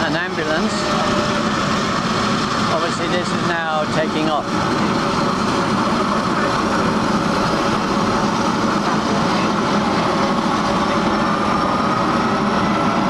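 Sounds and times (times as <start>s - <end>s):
helicopter engine and rotor: 0.0s - 13.0s
rising whine: 0.0s - 13.0s.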